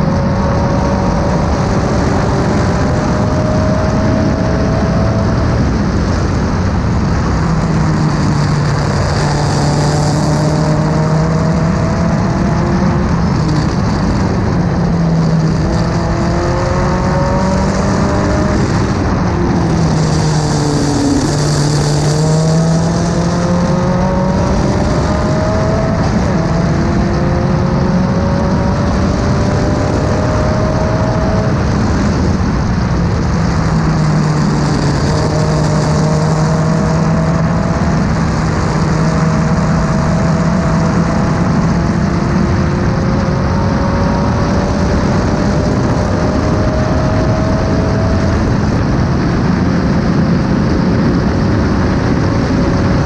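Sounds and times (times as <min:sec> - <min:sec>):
race car engine: 0:00.0 - 0:53.0
wind and road noise: 0:00.0 - 0:53.0.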